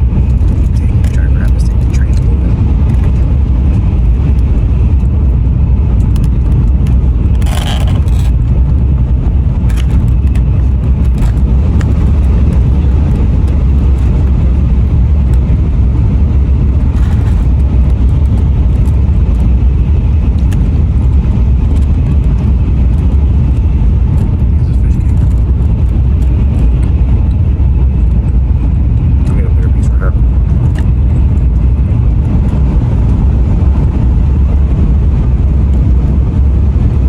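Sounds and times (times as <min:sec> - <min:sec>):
train low rumble from inside: 0:00.0 - 0:37.0.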